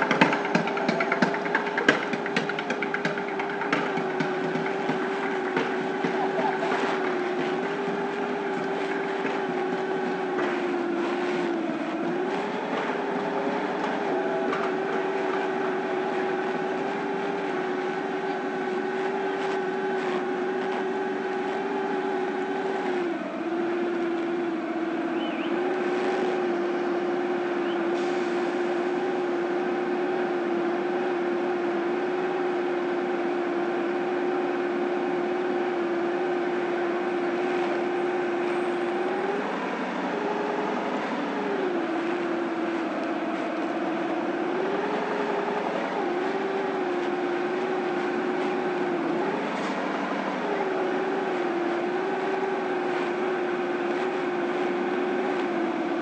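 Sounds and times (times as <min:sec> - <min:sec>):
motorcycle engine humming: 0:00.0 - 0:56.0.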